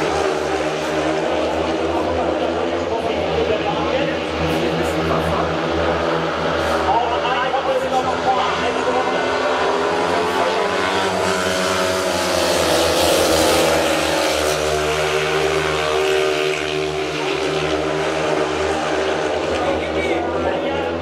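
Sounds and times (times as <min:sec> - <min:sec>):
motorcycle engines racing: 0:00.0 - 0:21.0.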